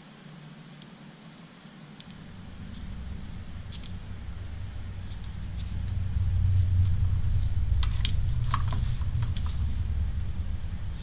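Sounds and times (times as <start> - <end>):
low rumble: 2.0 - 11.0.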